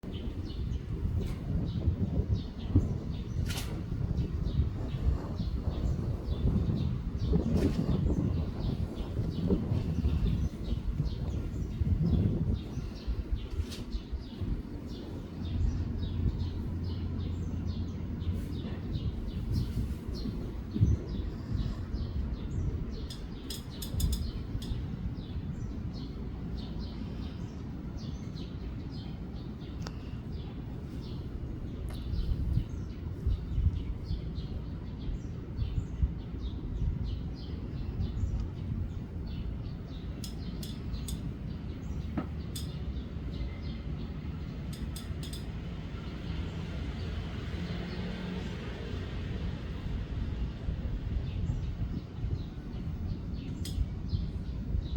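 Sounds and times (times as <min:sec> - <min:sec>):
small bird chirping: 0:00.0 - 0:47.2, 0:51.3 - 0:54.9
wind rumbling on microphone: 0:00.0 - 0:54.9.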